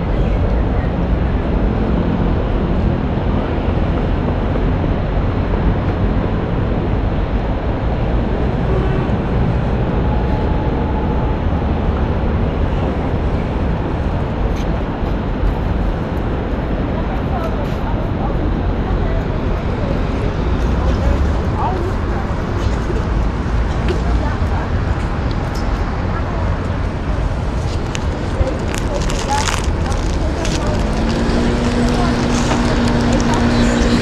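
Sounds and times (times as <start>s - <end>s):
passing cars rumbling: 0.0s - 34.0s.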